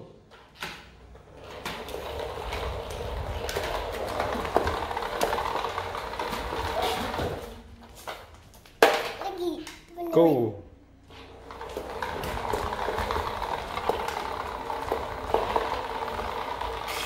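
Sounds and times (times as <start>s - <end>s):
scooter wheels rolling on tiles: 0.3s - 9.7s, 11.0s - 17.0s.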